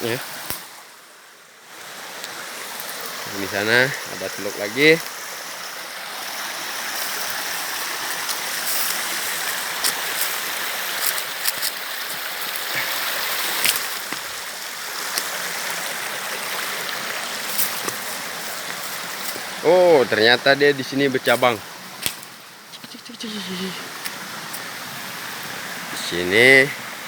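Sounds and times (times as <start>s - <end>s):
river water rushing over rocks: 0.0s - 22.7s, 23.5s - 27.0s.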